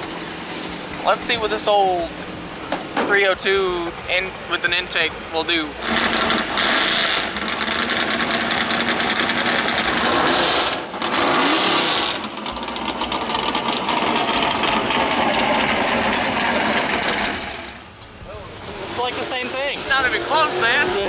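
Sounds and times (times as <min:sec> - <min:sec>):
engine at full throttle: 0:00.0 - 0:18.0, 0:18.6 - 0:21.0.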